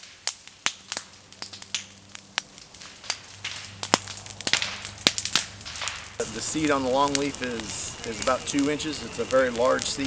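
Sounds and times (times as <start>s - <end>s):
fire crackling in dry leaves: 0.0s - 10.0s.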